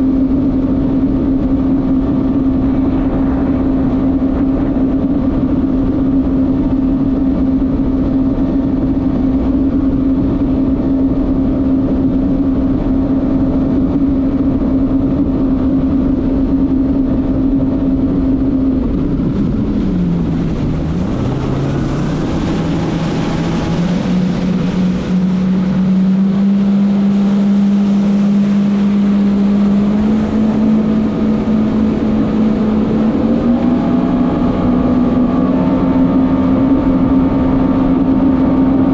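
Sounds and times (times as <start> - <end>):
jet ski engine running: 0.0 - 38.9
wind noise on microphone: 0.0 - 38.9.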